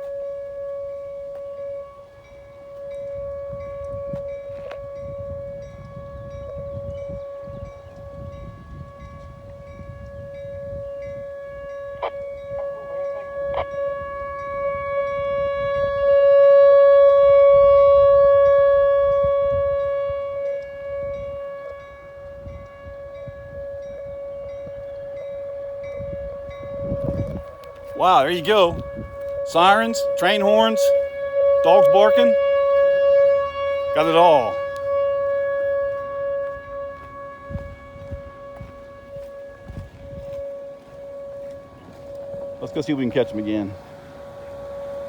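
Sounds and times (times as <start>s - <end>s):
warning siren steady tone: 0.0s - 45.0s.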